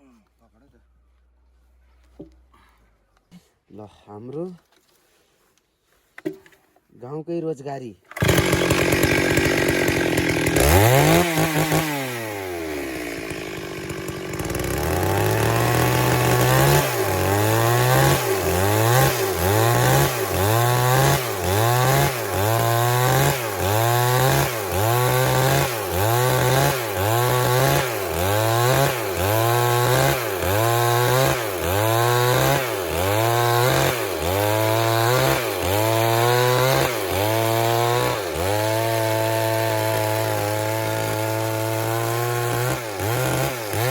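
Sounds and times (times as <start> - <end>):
chainsaw cutting log: 8.1 - 43.9.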